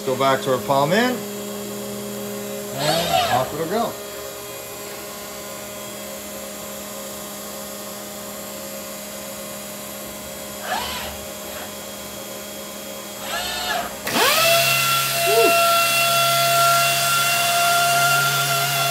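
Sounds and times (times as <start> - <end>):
orbital sander hum: 0.0 - 8.0, 10.0 - 18.9.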